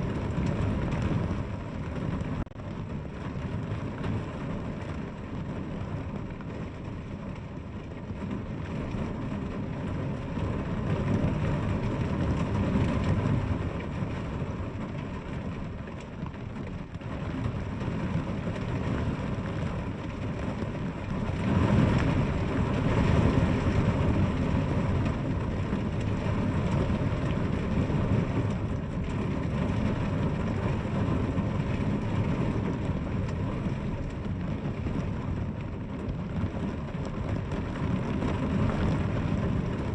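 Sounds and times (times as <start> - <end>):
steady heavy rain: 0.0 - 39.9.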